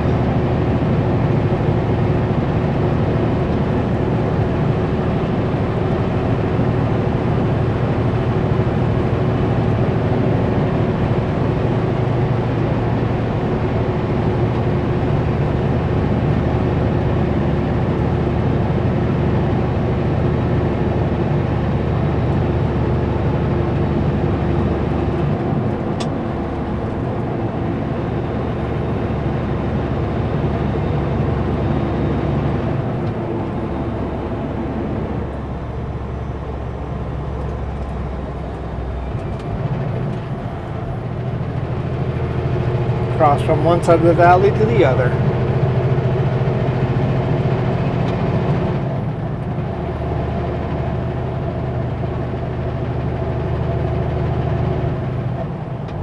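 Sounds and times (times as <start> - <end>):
truck engine drone: 0.0 - 56.0.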